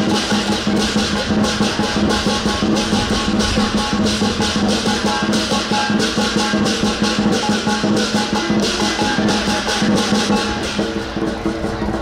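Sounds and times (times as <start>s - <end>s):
cymbals crashing: 0.0s - 12.0s
drum beating: 0.0s - 12.0s.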